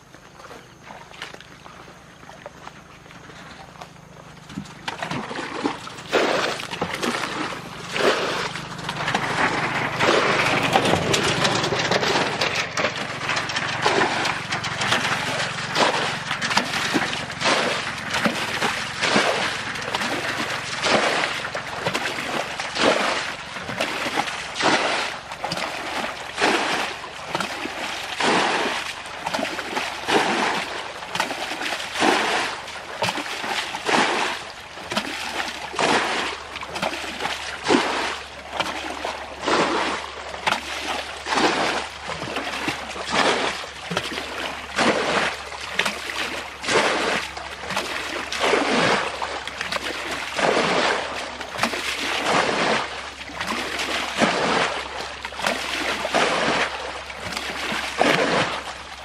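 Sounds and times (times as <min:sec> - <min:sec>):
water splashing: 0:00.0 - 0:59.0.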